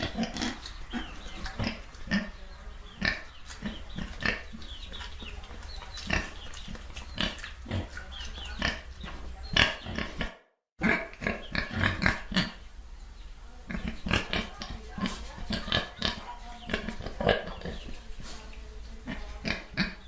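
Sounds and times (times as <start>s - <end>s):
pigs oinking and grunting: 0.0s - 12.7s, 13.6s - 18.3s, 19.0s - 20.0s.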